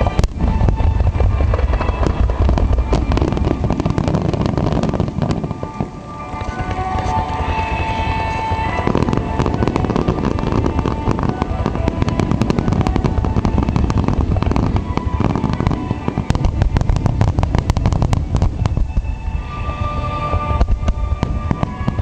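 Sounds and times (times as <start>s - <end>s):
fireworks booming and crackling: 0.0s - 22.0s
music playing: 0.0s - 22.0s.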